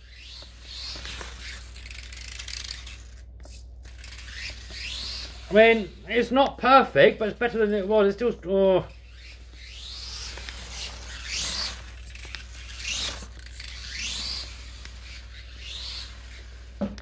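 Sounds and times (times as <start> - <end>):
electric motor revving whine: 0.0 - 17.0.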